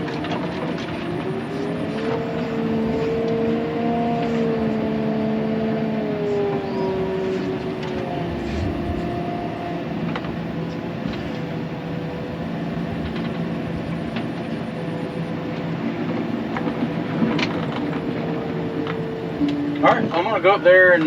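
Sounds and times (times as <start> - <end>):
loader engine running: 0.0 - 21.0.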